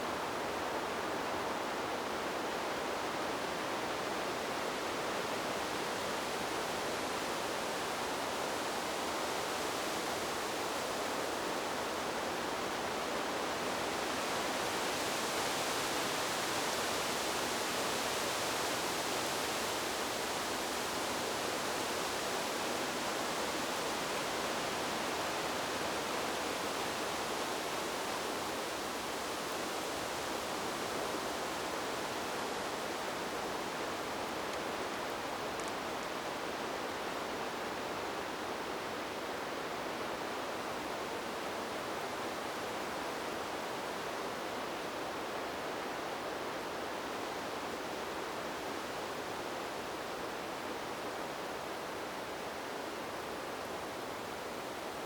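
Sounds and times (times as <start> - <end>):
wind blowing through trees: 0.0 - 55.0.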